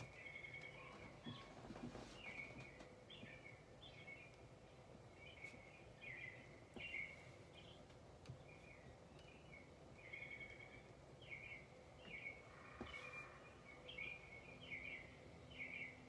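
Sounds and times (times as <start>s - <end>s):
birds chirping: 0.0s - 16.0s
soft steady hiss: 0.0s - 16.0s.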